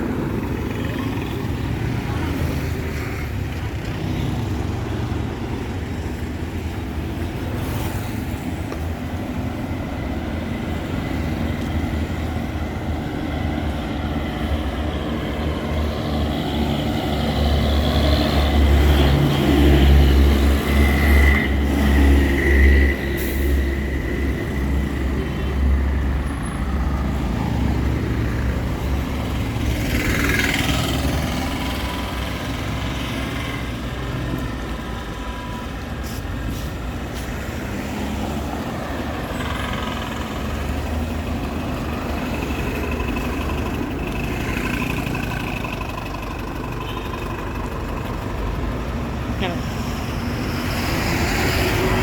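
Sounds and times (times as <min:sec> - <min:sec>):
heavy vehicles rumbling: 0:00.0 - 0:52.0
vehicle engines passing: 0:00.0 - 0:52.0.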